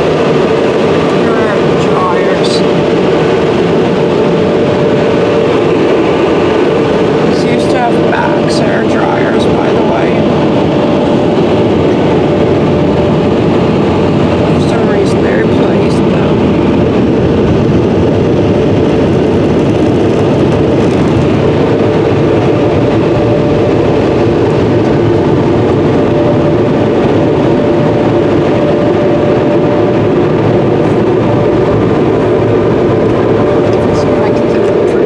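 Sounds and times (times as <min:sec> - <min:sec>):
car wash dryer blowers: 0:00.0 - 0:35.0.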